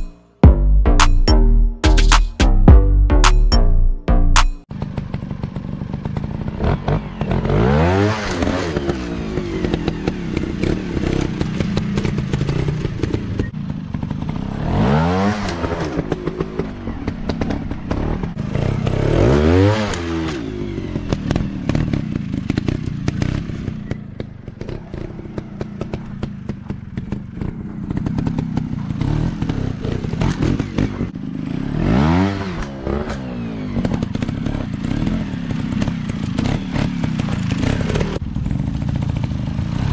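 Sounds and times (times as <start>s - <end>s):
dirt bike engines revving: 4.8s - 39.9s.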